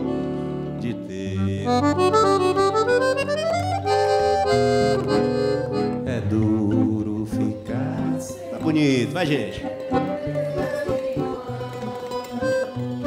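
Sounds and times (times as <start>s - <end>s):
accordion melody: 0.0s - 13.0s
acoustic guitar: 0.0s - 13.0s
mandolin: 0.0s - 13.0s.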